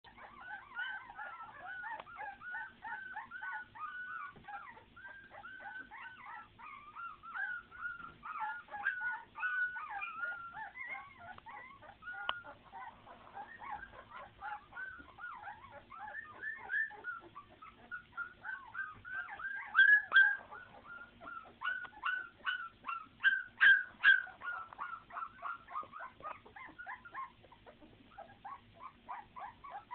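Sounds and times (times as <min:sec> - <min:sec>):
puppies crying: 0:00.0 - 0:29.9.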